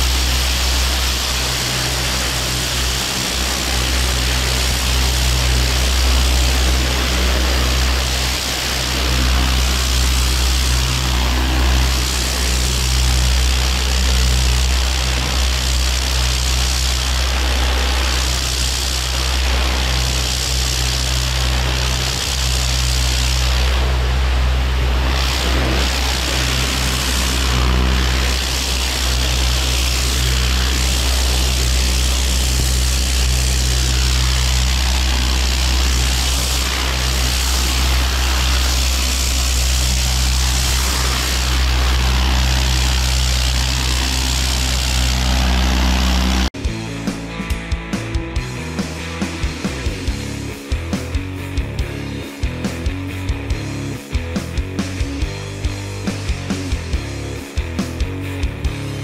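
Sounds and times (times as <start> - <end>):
pressure washer engine drone: 0.0 - 59.0.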